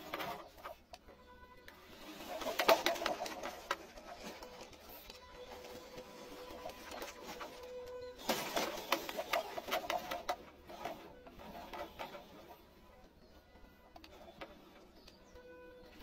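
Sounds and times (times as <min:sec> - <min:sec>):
electric motor and gears whirring: 0:00.0 - 0:16.0.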